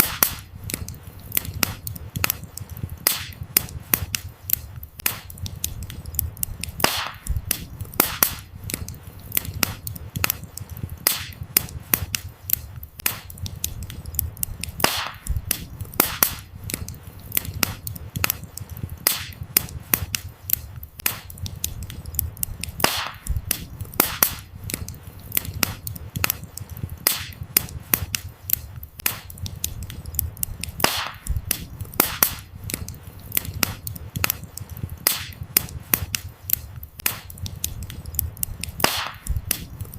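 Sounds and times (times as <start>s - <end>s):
firewood crackling and popping: 0.0s - 39.9s
low rumble of flames: 0.0s - 39.9s.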